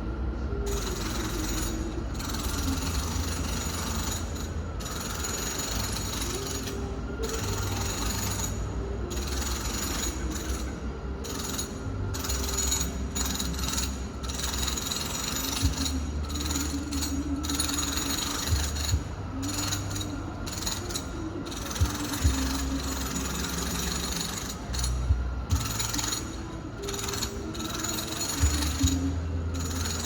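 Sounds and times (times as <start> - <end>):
low machine hum: 0.0 - 30.0
muffled power tool: 0.0 - 30.0.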